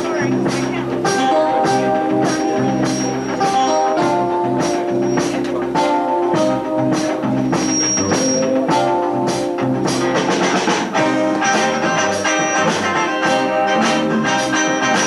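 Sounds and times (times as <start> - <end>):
bass: 0.0 - 15.0
drum kit beat: 0.0 - 15.0
electric guitar: 0.0 - 15.0.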